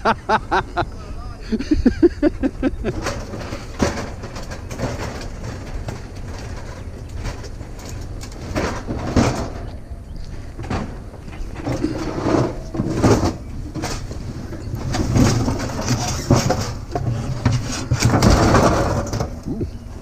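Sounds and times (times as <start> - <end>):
metal clanking and scraping: 1.8 - 20.0.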